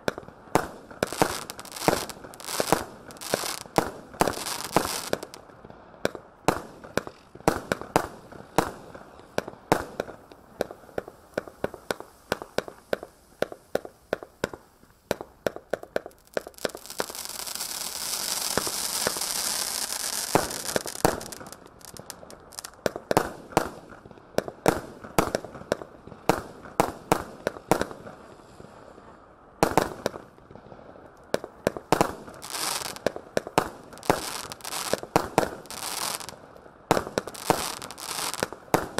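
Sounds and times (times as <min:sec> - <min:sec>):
firework shots: 0:00.0 - 0:28.3, 0:31.4 - 0:38.9
firework crackling: 0:00.0 - 0:29.0, 0:29.6 - 0:38.9.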